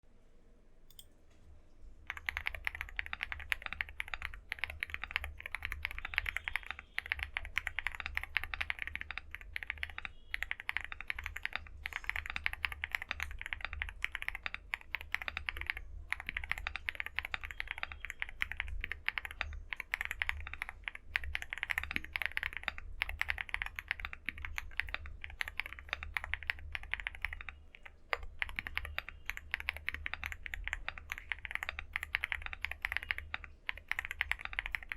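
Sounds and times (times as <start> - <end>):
fast mechanical keyboard typing: 2.1 - 34.9.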